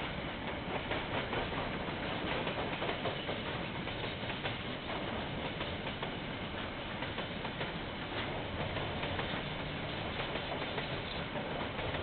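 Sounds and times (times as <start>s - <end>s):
train wagons rumbling on rails: 0.0s - 12.0s.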